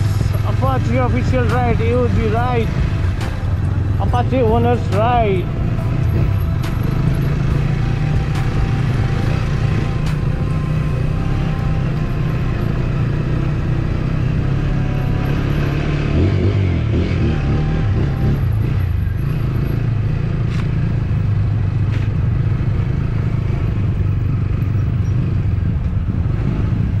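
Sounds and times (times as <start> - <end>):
motorcycle engine at low speed: 0.0 - 27.0.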